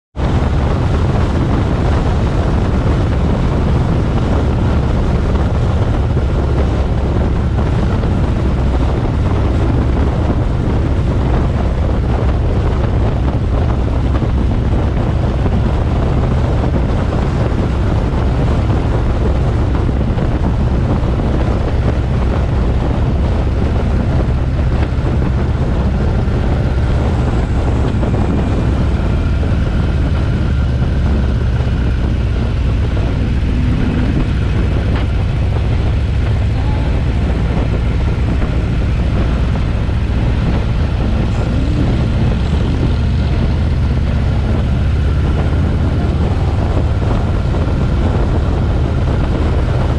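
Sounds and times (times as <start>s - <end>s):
motorcycle engine rumble: 0.1s - 49.9s
wind noise on microphone: 0.1s - 49.9s.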